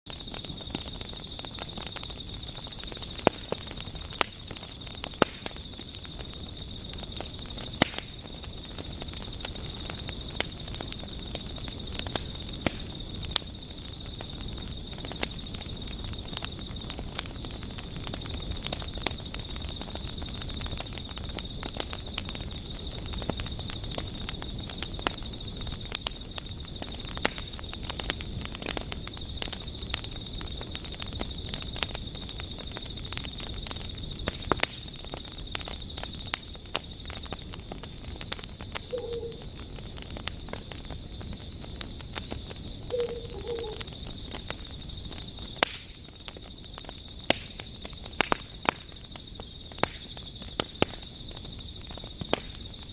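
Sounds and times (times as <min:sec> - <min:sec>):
campfire crackling and popping: 0:00.1 - 0:52.9
night insects chirping: 0:00.1 - 0:52.9.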